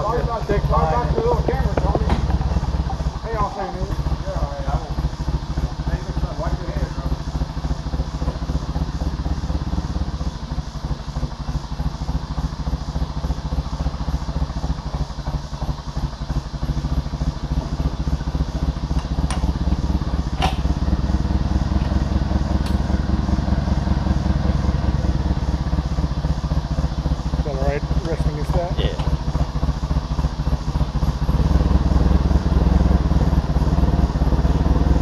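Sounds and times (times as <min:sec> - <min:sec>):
forklift engine idling: 0:00.0 - 0:35.0.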